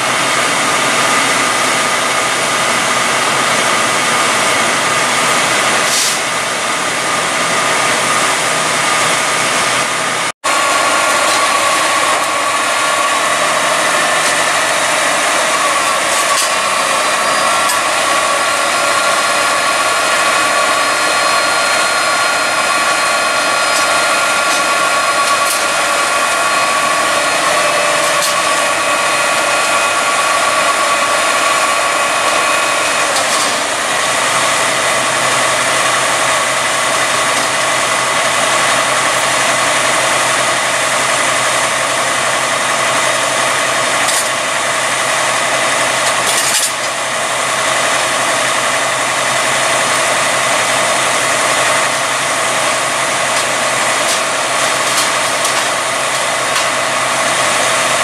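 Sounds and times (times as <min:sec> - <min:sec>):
diesel engines idling: 0:00.0 - 0:58.0
high whine: 0:00.0 - 0:58.0.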